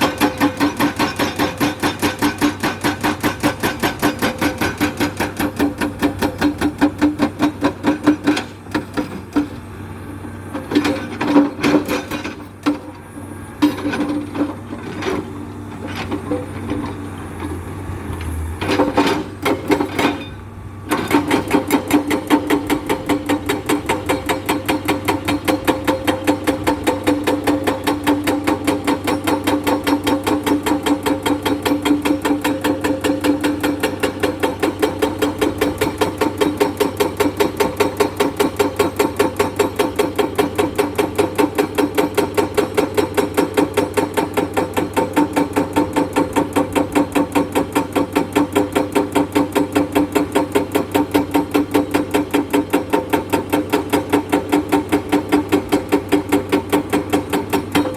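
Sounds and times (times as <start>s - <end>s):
hydraulic rock breaker hammering: 0.0s - 9.8s, 10.5s - 13.0s, 13.6s - 17.1s, 18.3s - 57.9s
excavator engine hum: 0.0s - 57.9s.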